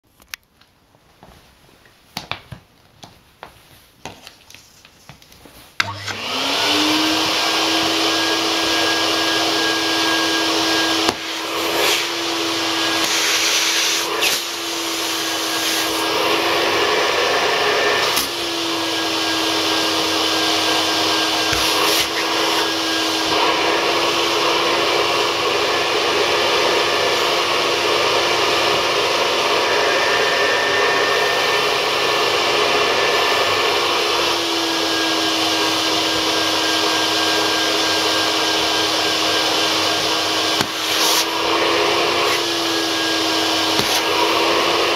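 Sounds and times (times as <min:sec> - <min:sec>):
vacuum cleaner running: 0:05.8 - 0:44.9.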